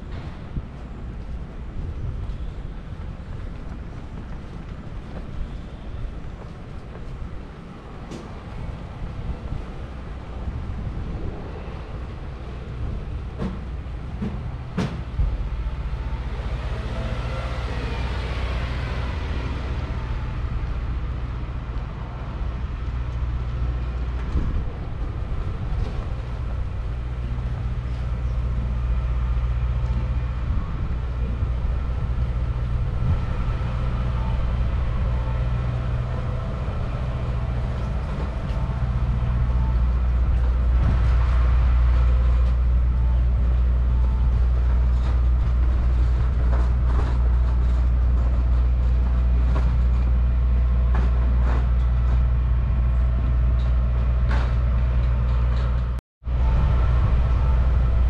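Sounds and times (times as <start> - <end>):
large vehicle engine rumble: 0.0 - 58.0.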